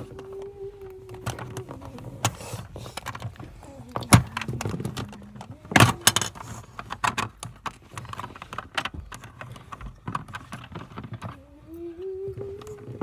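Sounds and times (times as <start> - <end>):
small hard objects clattering: 0.0 - 13.0.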